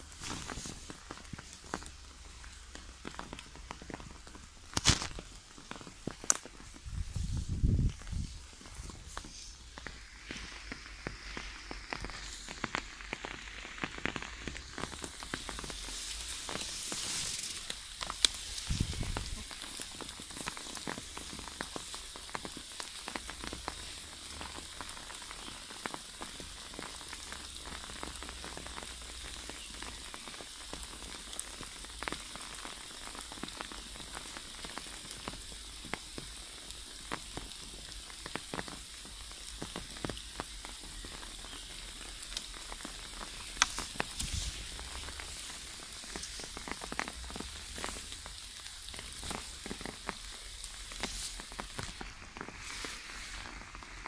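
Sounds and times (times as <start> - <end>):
light rain pattering on leaves: 0.0 - 54.0
rustle: 0.0 - 54.0.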